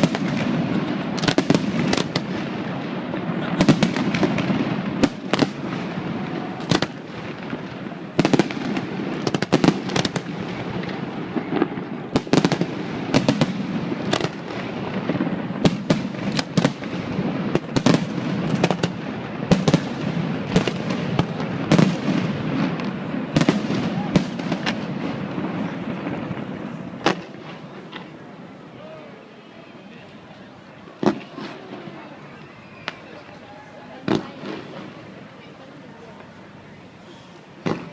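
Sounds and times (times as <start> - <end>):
rumble of firework bursts: 0.0 - 28.7, 30.6 - 35.4, 36.1 - 37.9
fireworks bangs and cracks: 0.0 - 29.0, 30.2 - 36.4, 37.4 - 37.9.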